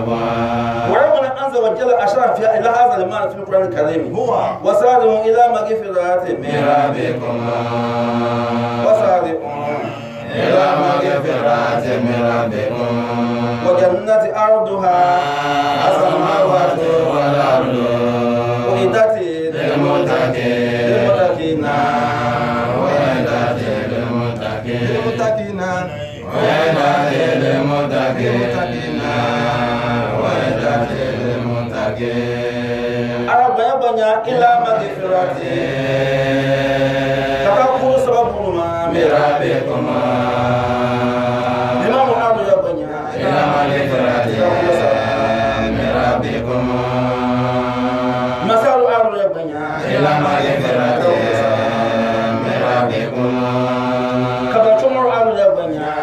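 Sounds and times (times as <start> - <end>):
man chanting: 0.0 - 32.2, 33.1 - 35.8, 36.8 - 56.0.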